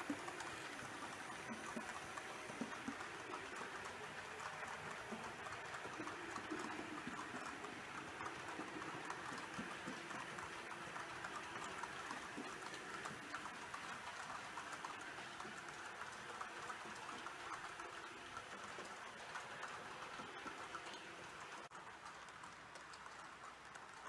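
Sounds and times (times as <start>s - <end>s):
model train wheels clicking: 0.0s - 24.0s.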